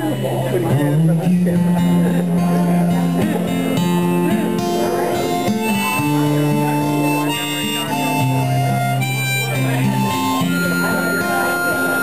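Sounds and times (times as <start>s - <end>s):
acoustic guitar strumming: 0.0s - 12.0s
harmonica: 0.1s - 12.0s.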